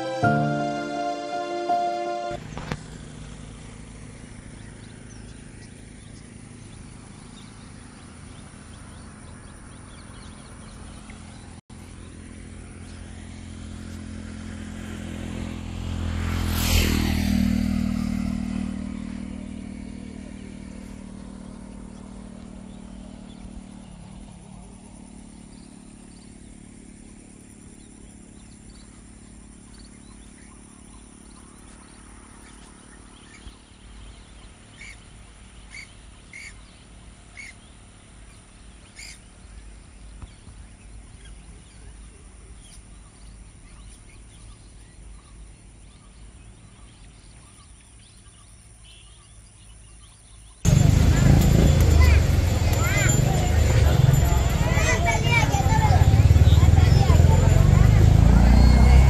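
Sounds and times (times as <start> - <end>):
vehicle engine passing by: 0.0 - 48.3, 50.6 - 59.0.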